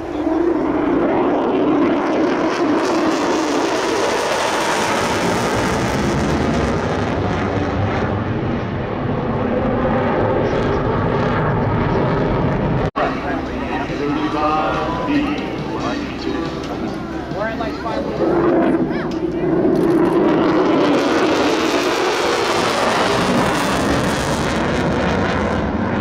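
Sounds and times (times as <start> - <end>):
loud jet roar passing: 0.0 - 26.0.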